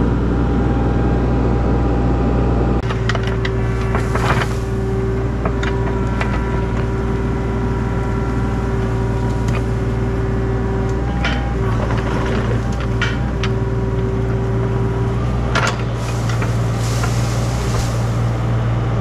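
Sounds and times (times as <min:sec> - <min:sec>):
excavator diesel engine running: 0:00.0 - 0:19.0
steady whine: 0:00.0 - 0:19.0.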